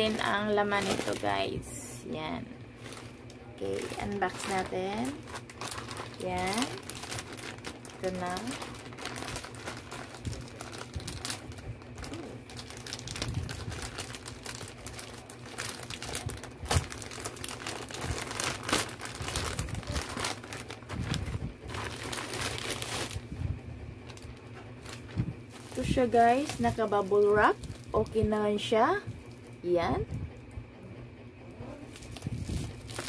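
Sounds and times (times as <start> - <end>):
plastic mailer crinkling: 0.0 - 1.8, 2.7 - 23.4, 24.0 - 29.5, 31.8 - 33.0.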